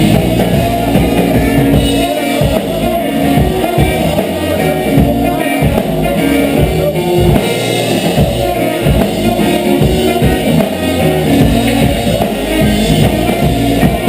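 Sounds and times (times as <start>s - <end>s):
dub reggae band playing: 0.0s - 14.0s
heavy bass line: 0.0s - 14.0s
steady drum beat: 0.0s - 14.0s.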